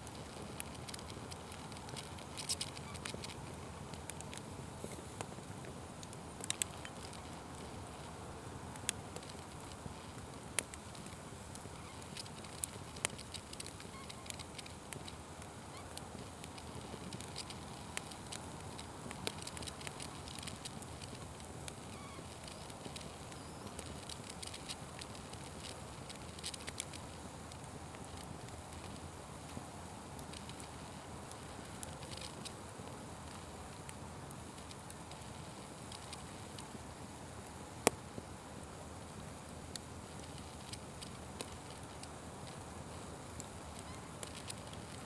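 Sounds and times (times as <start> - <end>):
fire popping: 0.0 - 45.0
open fire crackling: 0.0 - 45.0.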